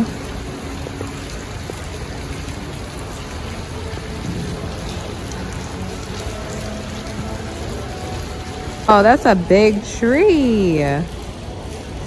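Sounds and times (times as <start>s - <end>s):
fountain jets splashing into pool: 0.0s - 12.0s.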